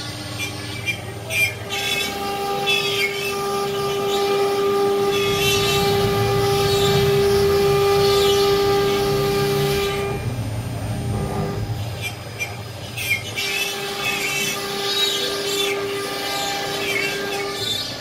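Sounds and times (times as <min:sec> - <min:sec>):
bit cutting noise: 0:00.0 - 0:18.0
router spindle high whine: 0:00.0 - 0:18.0.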